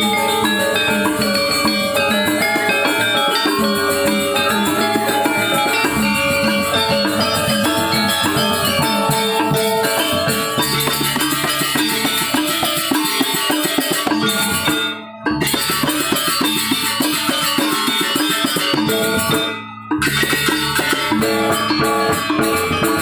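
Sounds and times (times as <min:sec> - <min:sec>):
drum strokes: 0:00.0 - 0:23.0
ringing metallophone tones: 0:00.0 - 0:23.0.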